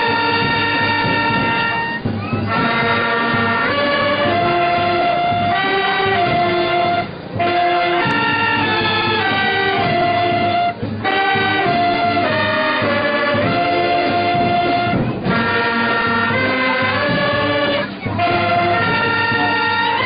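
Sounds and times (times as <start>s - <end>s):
brass band with saxophones: 0.0s - 20.0s.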